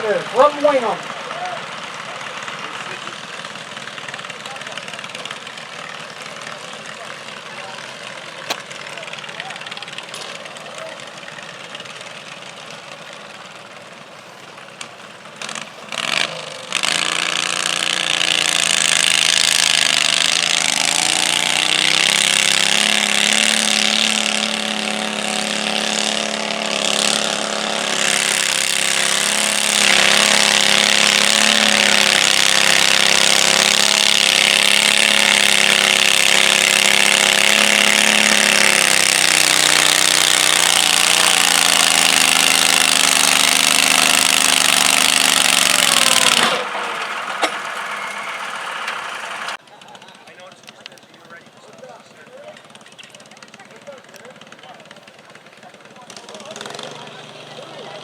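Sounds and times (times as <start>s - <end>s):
garden tractor engine revving: 0.0s - 49.6s, 50.4s - 58.0s.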